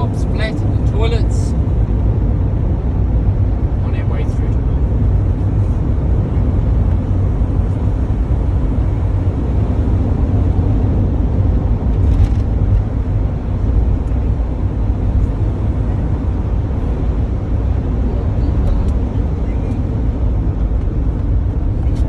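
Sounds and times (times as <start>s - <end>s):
coach engine and tyre rumble: 0.0s - 22.0s.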